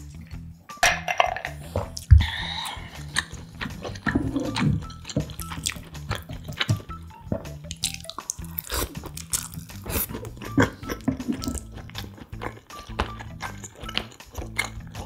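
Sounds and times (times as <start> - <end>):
soft background music: 0.0 - 15.0
wet chewing and smacking: 1.6 - 15.0.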